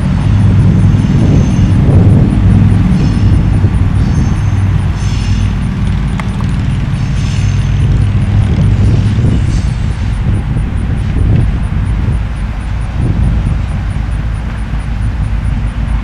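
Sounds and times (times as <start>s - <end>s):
diesel locomotive engine droning: 0.0s - 16.0s.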